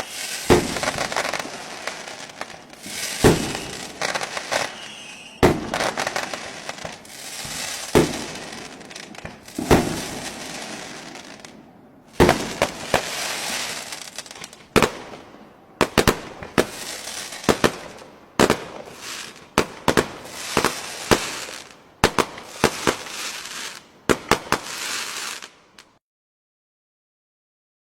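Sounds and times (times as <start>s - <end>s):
fireworks bursting with bangs: 0.0s - 25.9s
fireworks crackling and fizzing: 0.0s - 26.0s.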